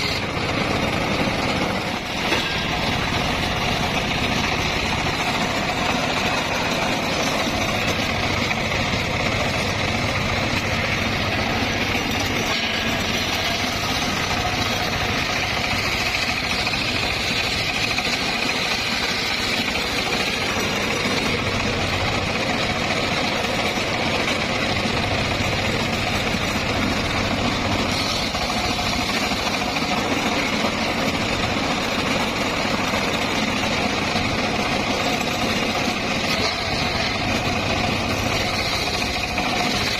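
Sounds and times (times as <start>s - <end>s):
circular sawmill running: 0.0s - 39.9s.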